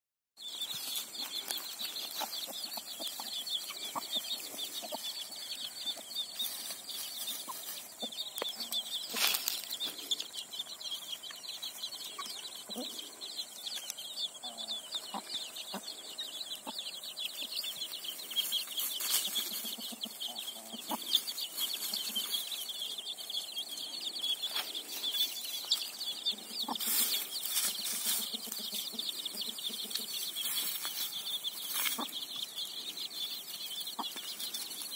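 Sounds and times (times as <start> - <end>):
chicks peeping: 0.4 - 34.9
hen clucking: 0.5 - 34.9.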